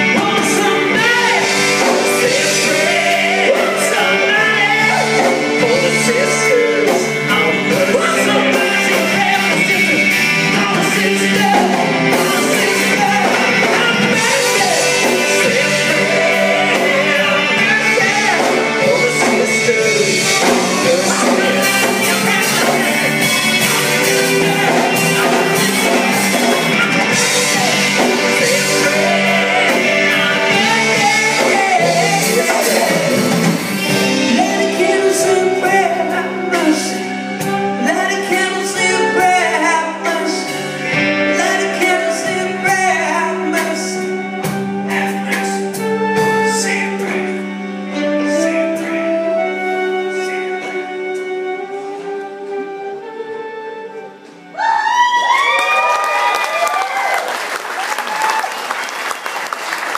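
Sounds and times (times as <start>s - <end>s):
lead singer singing: 0.0s - 52.3s
live rock band playing: 0.0s - 59.9s.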